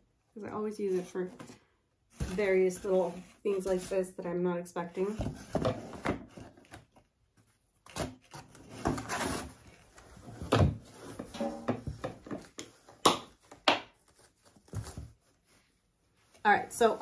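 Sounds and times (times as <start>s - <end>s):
cardboard and fabric rustling: 0.6s - 17.0s.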